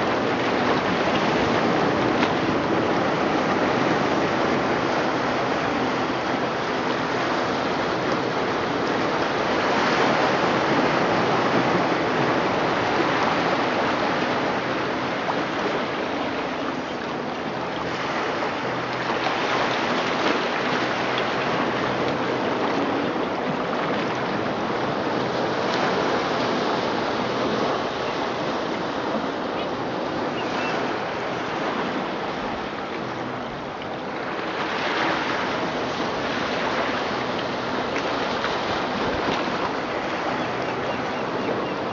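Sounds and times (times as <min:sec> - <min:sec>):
ocean waves through loudspeakers: 0:00.0 - 0:41.9.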